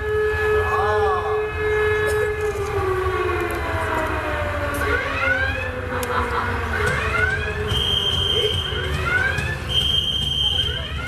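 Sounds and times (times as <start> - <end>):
siren wailing over loudspeaker: 0.0 - 11.0.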